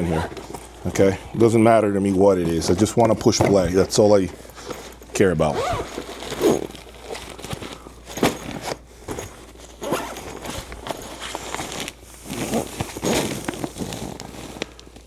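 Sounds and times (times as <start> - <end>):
knocks and rustles of rummaging: 0.0 - 15.0.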